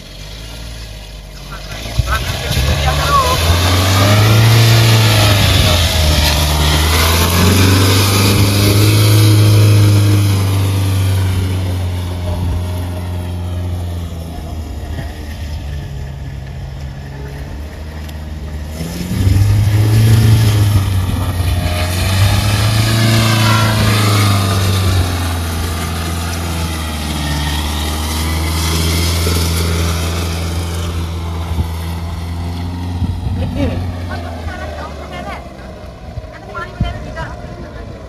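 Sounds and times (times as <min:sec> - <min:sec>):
engine revving under load: 0:00.0 - 0:38.0.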